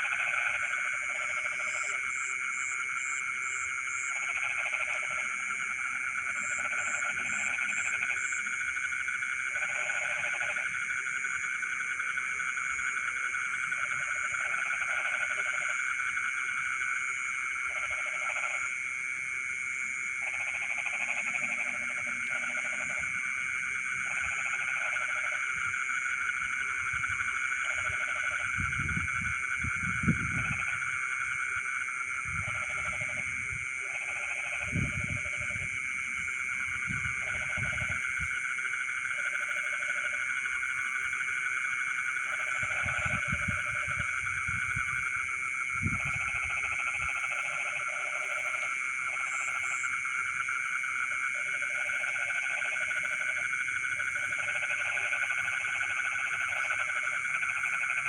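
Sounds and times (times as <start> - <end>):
low frog calls: 0.0 - 18.8, 20.2 - 58.0.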